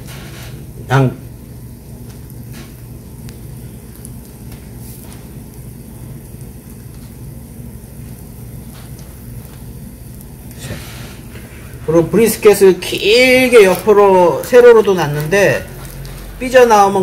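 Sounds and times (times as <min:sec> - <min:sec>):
faint hiss: 0:00.0 - 0:17.0
steady low hum: 0:00.0 - 0:17.0.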